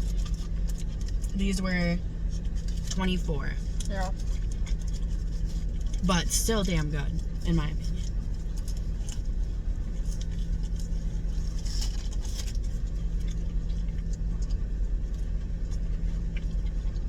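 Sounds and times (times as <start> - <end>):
car idling: 0.0 - 17.0
faint clicks and rustles: 2.1 - 3.0, 3.6 - 17.0.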